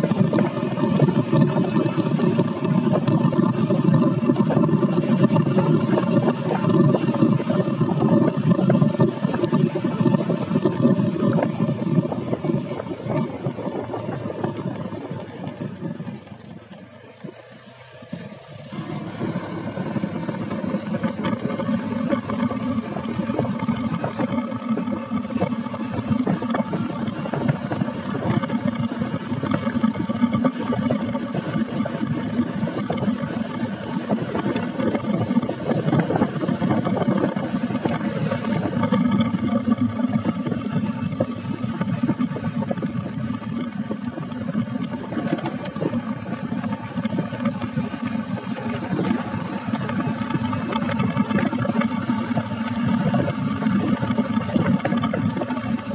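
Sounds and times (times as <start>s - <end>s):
motorcycle engine running: 0.0s - 55.9s
road and wind noise: 0.0s - 55.9s.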